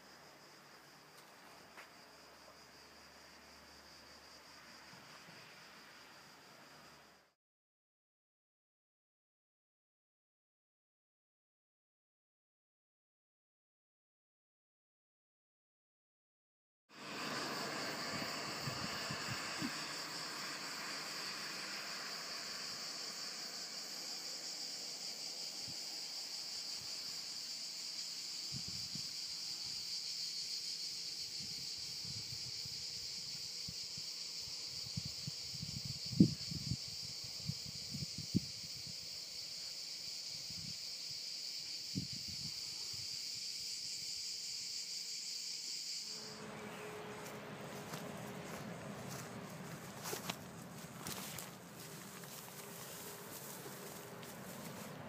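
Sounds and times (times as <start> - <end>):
cicadas buzzing: 0.0 - 7.4, 16.9 - 55.0.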